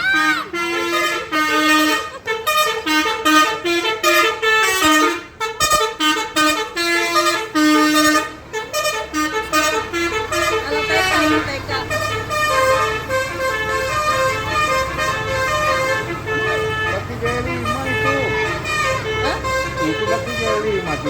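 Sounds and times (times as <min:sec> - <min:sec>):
multi-tone musical air horn tune: 0:00.0 - 0:21.0.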